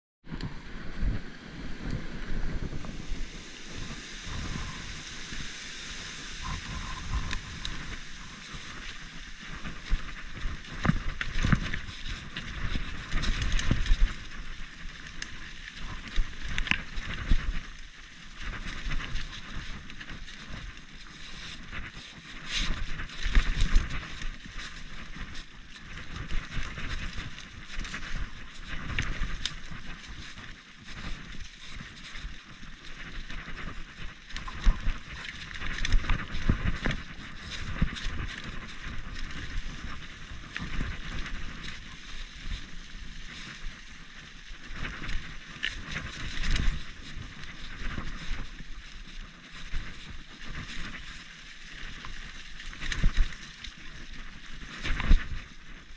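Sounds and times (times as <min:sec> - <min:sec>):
bike tyre and trail noise: 0:00.2 - 0:55.9
wind gusts on microphone: 0:00.2 - 0:55.9
bike rattling over bumps: 0:02.5 - 0:55.9.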